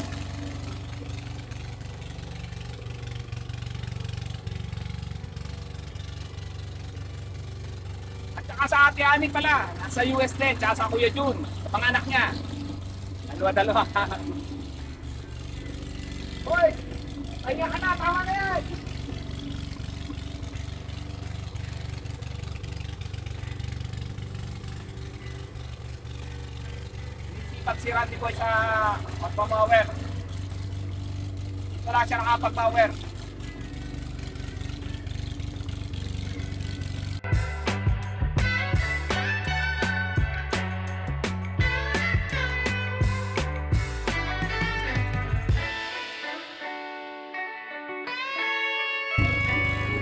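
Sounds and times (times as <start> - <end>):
lawn mower engine running: 0.0 - 46.5, 49.2 - 50.0.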